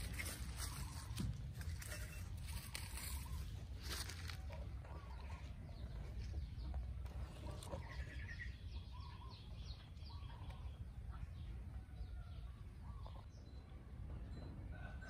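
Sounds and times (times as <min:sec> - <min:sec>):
birds chirping and calling: 0:00.0 - 0:13.6.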